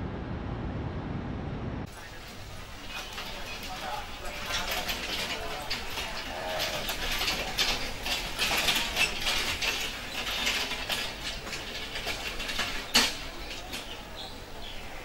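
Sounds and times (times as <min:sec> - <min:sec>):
metal hand cart rattling: 0:01.9 - 0:15.0.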